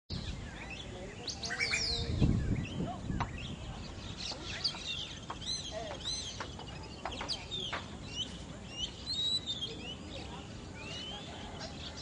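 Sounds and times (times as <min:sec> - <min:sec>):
birds chirping: 0:00.1 - 0:12.0.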